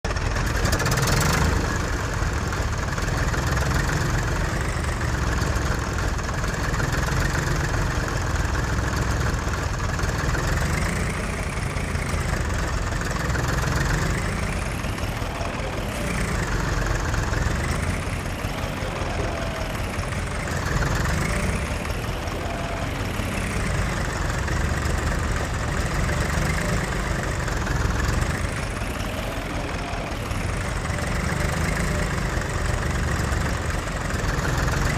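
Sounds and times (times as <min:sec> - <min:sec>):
diesel engines idling: 0:00.0 - 0:34.9.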